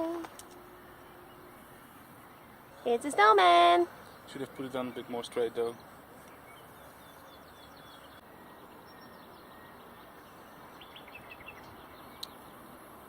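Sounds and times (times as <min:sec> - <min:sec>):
faint outdoor hiss: 0:00.0 - 0:13.0
small birds chirping: 0:00.0 - 0:13.0.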